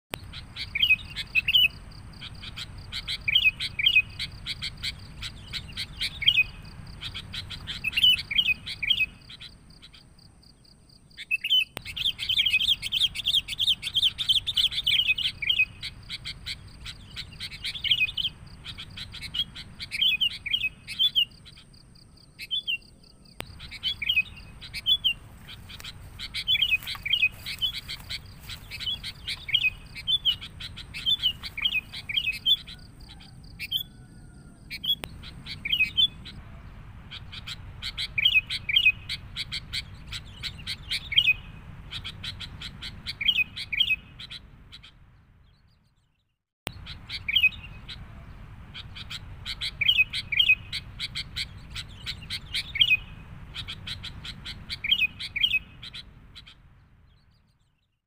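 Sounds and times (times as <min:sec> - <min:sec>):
bulbuls chattering calls: 0:00.2 - 0:10.4, 0:11.1 - 0:45.1, 0:46.7 - 0:56.8.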